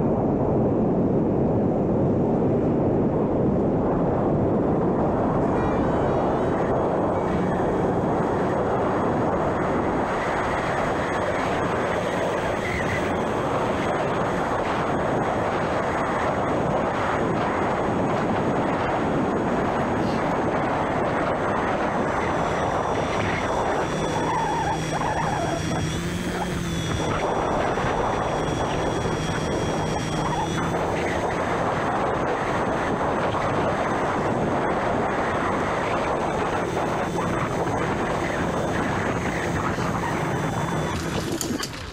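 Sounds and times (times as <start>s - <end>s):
model airplane motor and propeller: 3.9s - 41.9s
thin motor whine: 3.9s - 41.9s.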